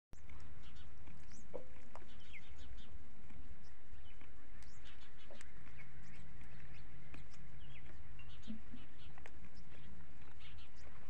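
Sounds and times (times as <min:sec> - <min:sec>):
faint steady hum: 0:00.2 - 0:11.0
small birds chirping: 0:00.2 - 0:11.0
steady low rumble: 0:00.2 - 0:11.0.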